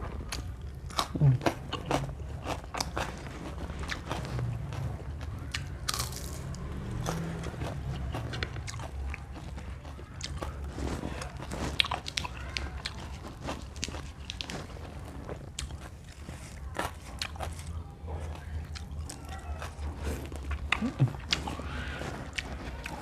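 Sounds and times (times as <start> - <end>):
chewing crunchy raw vegetables: 0.0 - 23.0.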